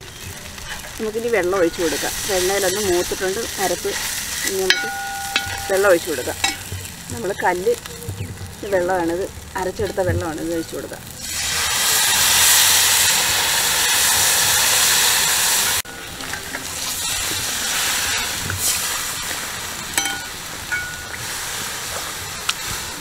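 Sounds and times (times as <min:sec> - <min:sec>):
water sizzling in hot oil: 0:00.0 - 0:23.0.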